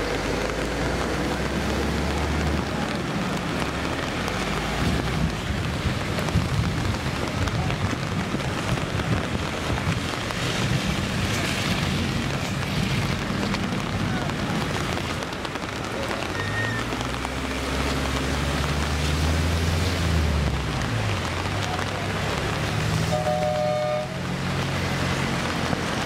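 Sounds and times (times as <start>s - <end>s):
floodwater rushing: 0.0s - 26.0s
rain: 0.0s - 26.0s.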